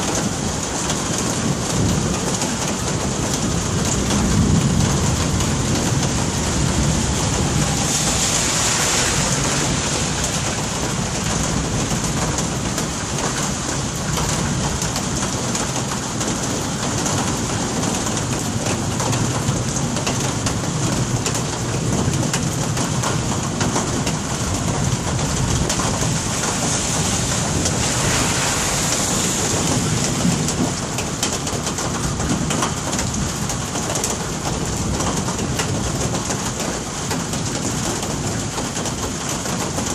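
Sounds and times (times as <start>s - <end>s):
steady rain hiss: 0.0s - 39.9s
low thunder rumble: 1.3s - 33.7s.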